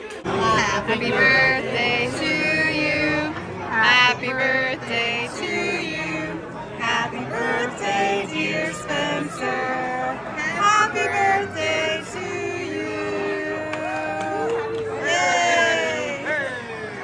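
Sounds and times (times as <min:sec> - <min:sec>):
group of people singing: 0:00.2 - 0:15.9.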